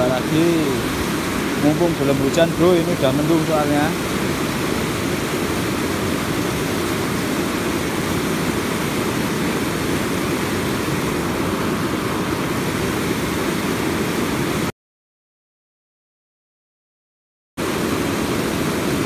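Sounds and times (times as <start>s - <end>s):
river rushing: 0.0s - 14.7s, 17.6s - 19.0s.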